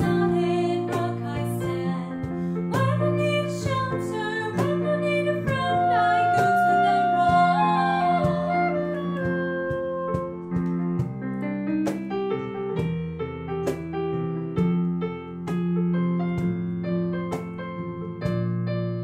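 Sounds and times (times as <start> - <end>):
piano playing chords and melody: 0.0 - 19.0.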